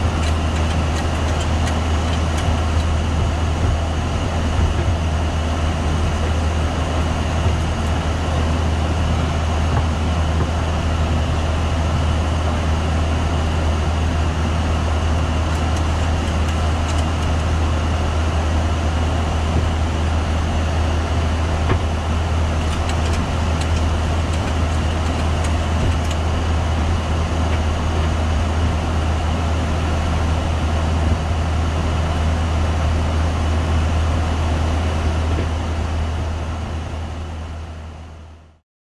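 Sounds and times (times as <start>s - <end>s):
aircraft cockpit drone: 0.0s - 38.6s.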